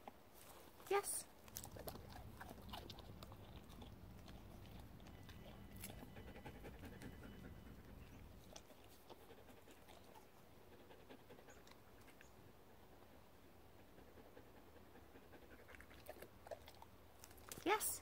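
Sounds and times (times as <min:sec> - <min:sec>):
dog panting: 0:01.6 - 0:12.2, 0:12.8 - 0:16.8.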